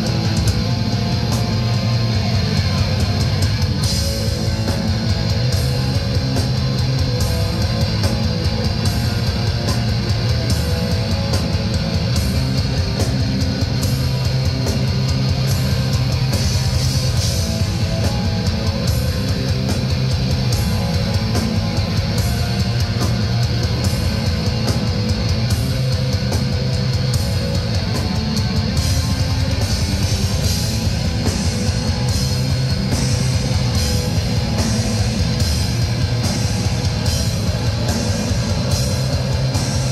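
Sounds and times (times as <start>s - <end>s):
distorted electric guitars: 0.0s - 39.9s.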